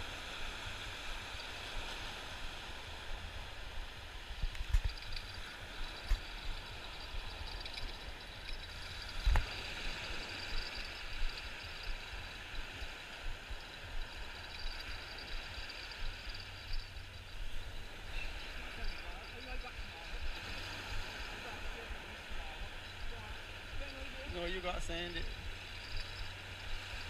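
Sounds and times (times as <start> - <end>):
wind and surf rumble: 0.0 - 27.0.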